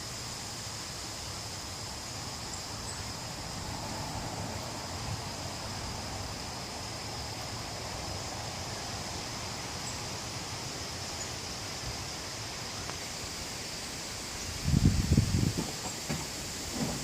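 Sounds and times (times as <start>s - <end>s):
leaves rustling: 0.0s - 17.0s
wind through trees: 0.0s - 17.0s.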